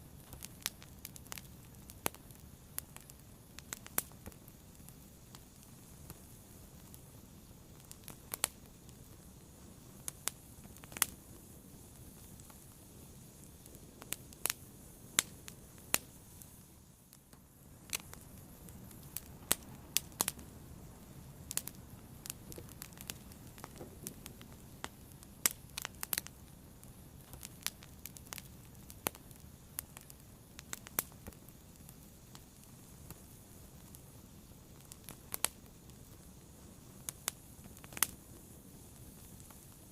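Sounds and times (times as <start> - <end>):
fire crackling and popping: 0.0 - 39.9
soft steady hiss: 0.0 - 39.9.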